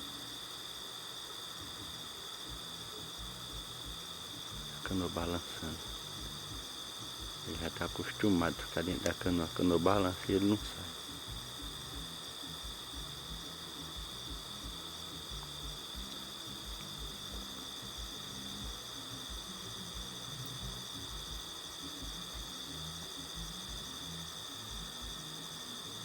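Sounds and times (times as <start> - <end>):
crickets and insects trilling: 0.0 - 26.0
faint low pulsing: 0.0 - 26.0.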